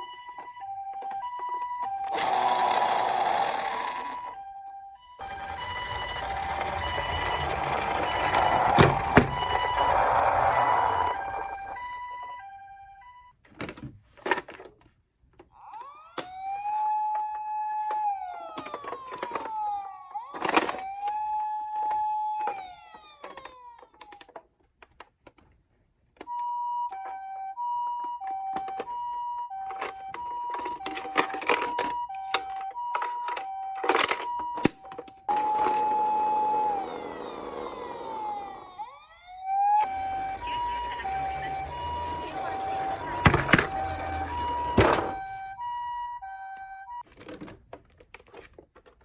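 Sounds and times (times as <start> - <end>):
toy siren wailing: 0.0 - 13.3, 15.5 - 24.4, 26.2 - 47.1
two-tone hi-lo siren: 0.0 - 13.3, 15.6 - 24.2, 26.3 - 47.1.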